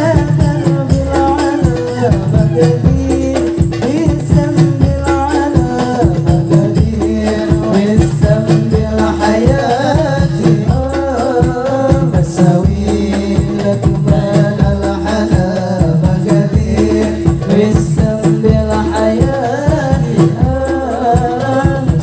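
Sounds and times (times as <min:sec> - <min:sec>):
frame drums beating: 0:00.0 - 0:22.0
men singing ornamented melody: 0:00.0 - 0:22.0.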